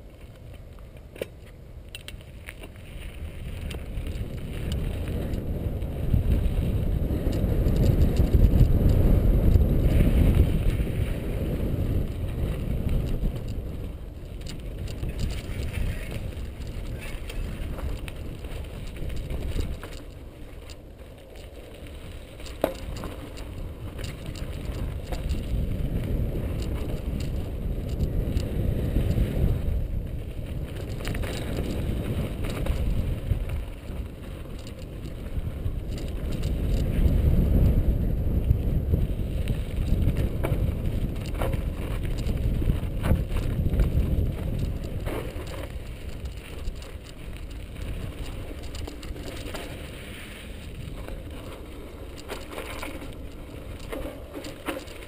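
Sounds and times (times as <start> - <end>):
bike tyres rumbling over dirt: 0.0 - 55.0
wind buffeting microphone: 1.7 - 55.0.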